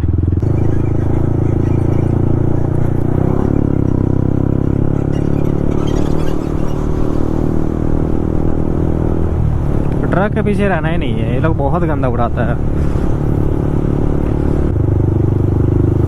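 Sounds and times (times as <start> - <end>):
motorcycle engine at road speed: 0.0 - 16.0.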